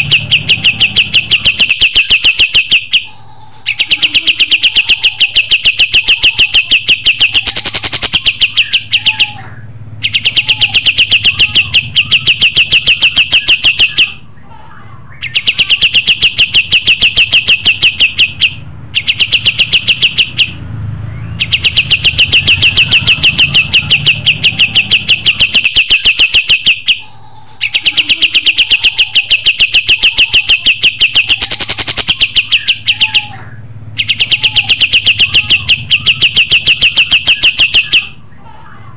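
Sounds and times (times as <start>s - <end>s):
songbird rapid chirping: 0.0s - 38.5s.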